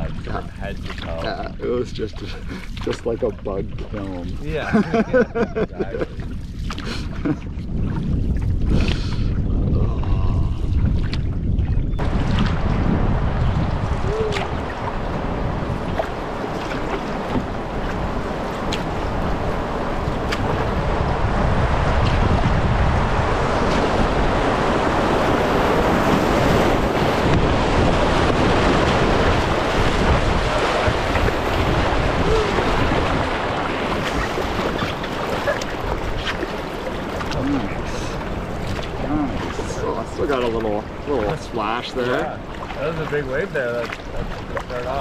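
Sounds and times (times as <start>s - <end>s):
rushing river water: 0.0s - 11.1s, 12.0s - 45.0s
wind buffeting microphone: 0.0s - 45.0s.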